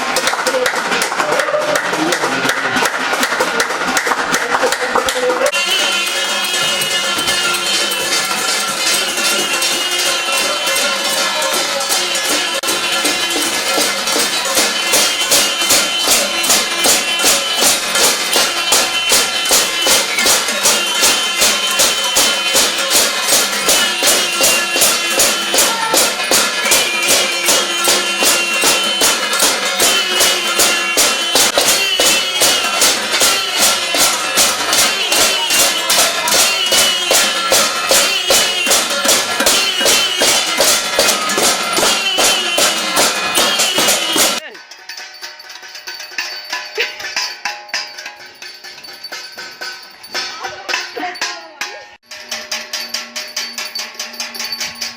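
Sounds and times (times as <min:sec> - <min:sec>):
bells ringing: 0:00.0 - 0:54.9
steel plates being beaten: 0:00.0 - 0:54.9.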